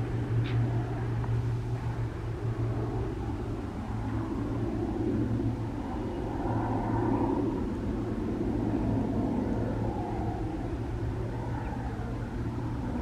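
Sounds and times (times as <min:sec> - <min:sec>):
aircraft rumble: 0:00.0 - 0:13.0
propeller aircraft hum: 0:00.0 - 0:13.0.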